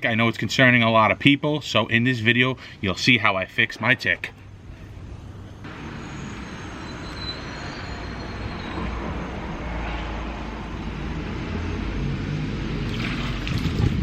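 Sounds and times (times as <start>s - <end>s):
vehicle rumble: 2.5s - 14.0s.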